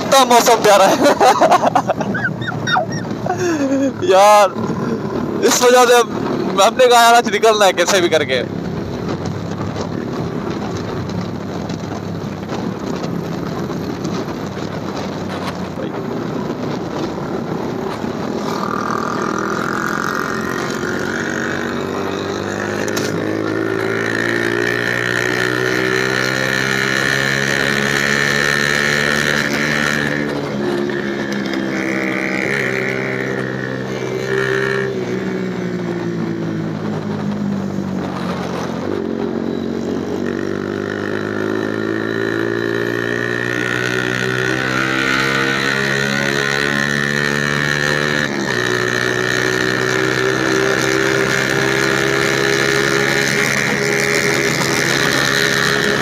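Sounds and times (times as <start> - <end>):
wind noise: 0.0 - 47.4
motorcycle engine revving: 0.0 - 56.0.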